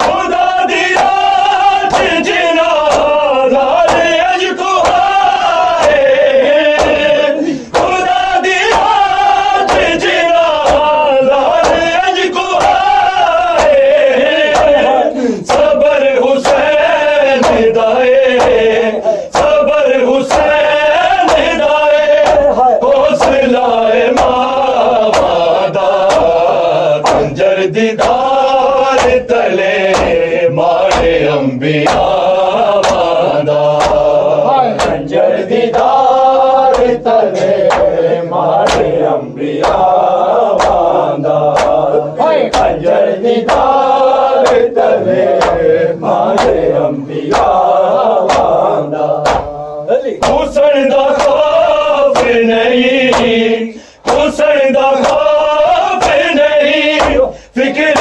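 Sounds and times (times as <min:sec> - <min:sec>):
men chanting a lament: 0:00.0 - 0:58.0
sharp rhythmic strikes: 0:00.0 - 0:58.0.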